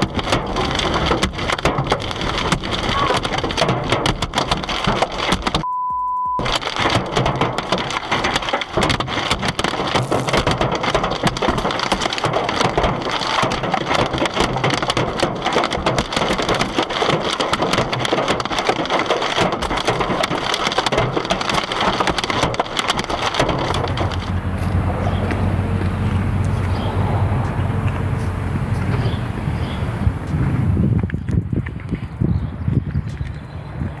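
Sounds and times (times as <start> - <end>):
hail pelting car: 0.0 - 5.6, 6.4 - 31.0.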